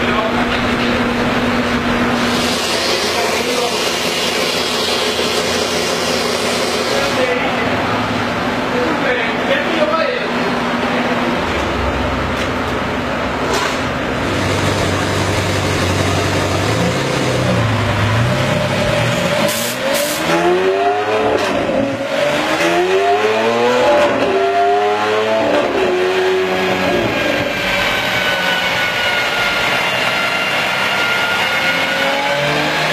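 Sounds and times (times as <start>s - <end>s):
engine revving on dyno: 0.0s - 32.9s.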